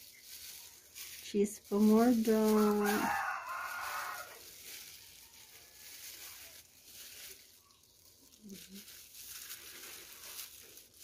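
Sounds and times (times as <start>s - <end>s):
plastic gloves crinkling: 0.0s - 11.0s.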